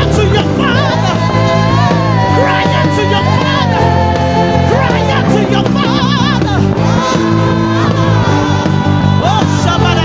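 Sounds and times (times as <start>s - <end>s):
bass guitar low notes: 0.0s - 10.0s
full band playing: 0.0s - 10.0s
person singing with vibrato: 0.0s - 10.0s.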